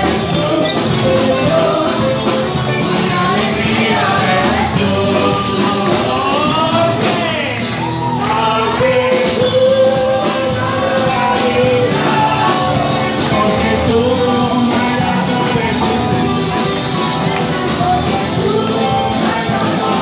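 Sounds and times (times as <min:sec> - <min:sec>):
person singing: 0:00.0 - 0:07.6, 0:08.2 - 0:20.0
live band music: 0:00.0 - 0:20.0.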